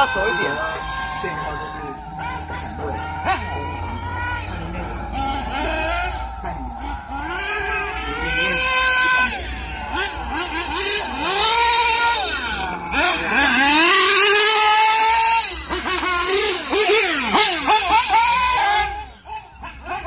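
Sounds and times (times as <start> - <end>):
radio-controlled car engines revving: 0.0 - 20.0.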